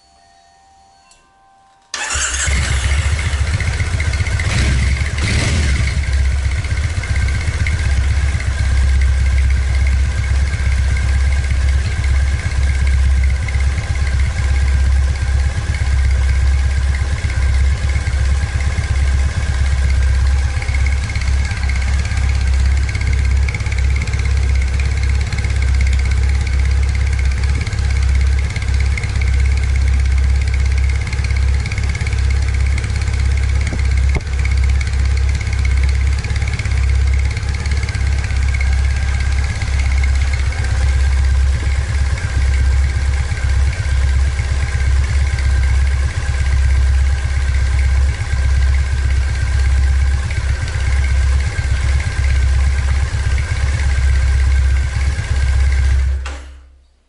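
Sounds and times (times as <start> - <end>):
motorcycle engine idling: 1.9 - 56.4.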